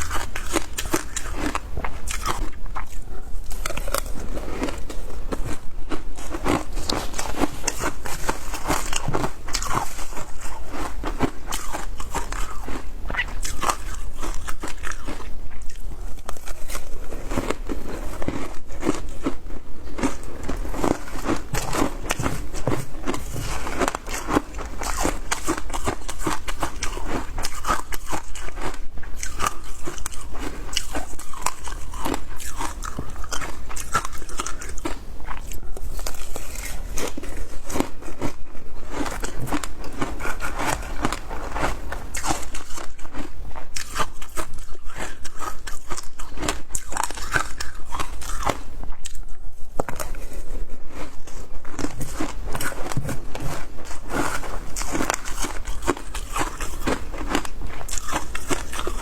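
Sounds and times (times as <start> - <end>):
person crunching ice: 0.0 - 35.0, 35.9 - 49.2, 51.0 - 59.0.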